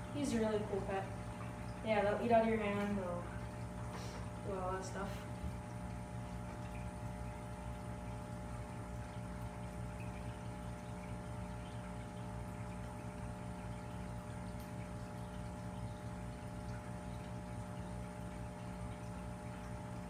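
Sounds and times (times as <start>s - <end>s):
aquarium pump hum: 0.0s - 20.0s.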